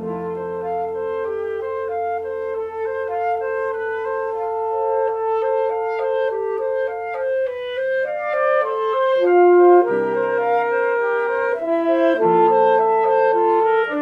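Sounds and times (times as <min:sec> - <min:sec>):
woodwind and piano chamber music: 0:00.0 - 0:14.0.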